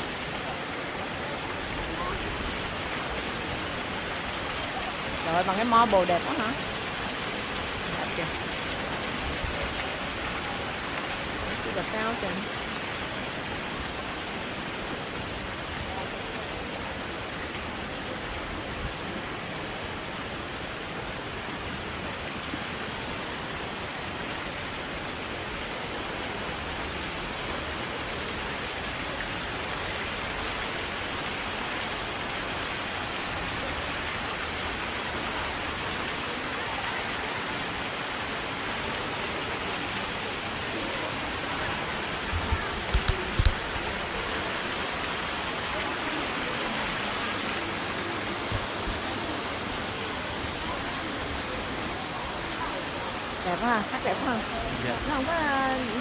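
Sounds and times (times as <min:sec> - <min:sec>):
falling rain: 0:00.0 - 0:56.0
fountain water splashing: 0:00.0 - 0:56.0.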